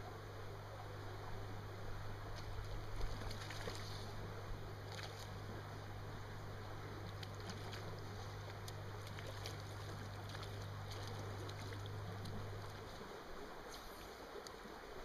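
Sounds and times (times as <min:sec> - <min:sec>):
low hum: 0:00.0 - 0:15.0
stream water flowing: 0:00.0 - 0:15.0.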